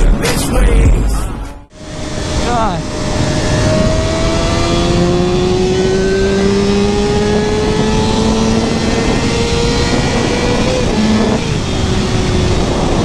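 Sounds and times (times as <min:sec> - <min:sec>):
motorcycle accelerating: 0:01.7 - 0:13.0
wind rumble on microphone: 0:01.8 - 0:13.0.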